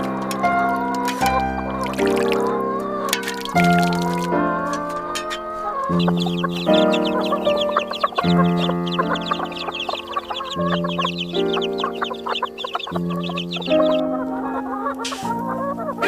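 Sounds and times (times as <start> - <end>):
hens clucking: 0.0 - 16.0
music of slow held chords: 0.0 - 16.0.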